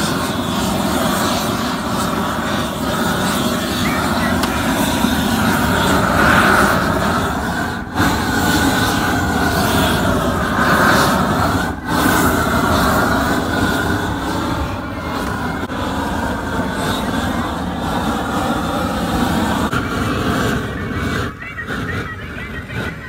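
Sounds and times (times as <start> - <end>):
torch burning with rushing sound: 0.0 - 23.0.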